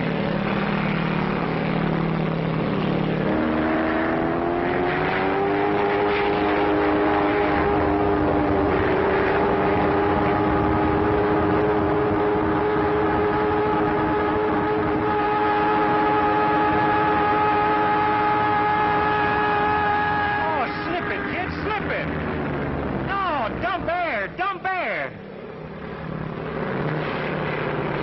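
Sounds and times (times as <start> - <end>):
propeller airplane engine droning: 0.0 - 28.0.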